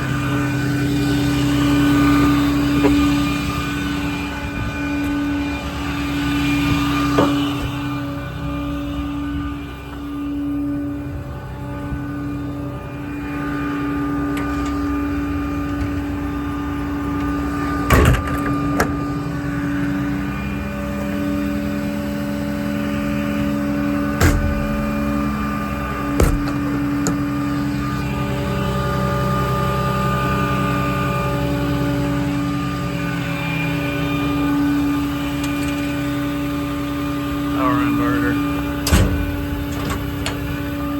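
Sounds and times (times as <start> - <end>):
diesel engine drone with whine: 0.0 - 40.9
truck machinery humming: 0.0 - 40.9.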